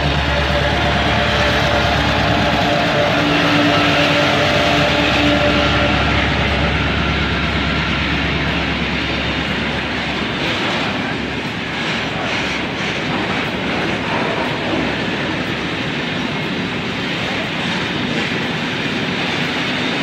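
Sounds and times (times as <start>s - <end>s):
locomotive engine hum: 0.0s - 20.0s
train wagons rumbling over rails: 0.0s - 20.0s.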